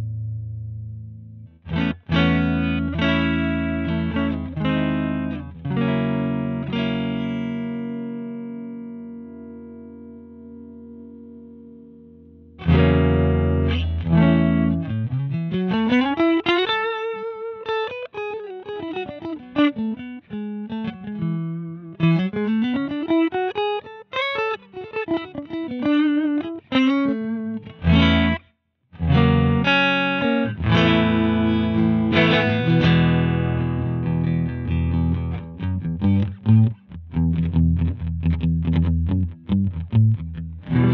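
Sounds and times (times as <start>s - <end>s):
electric guitar chords: 0.0s - 28.4s, 29.0s - 40.9s
electric guitar single notes: 0.0s - 28.4s, 29.0s - 40.9s.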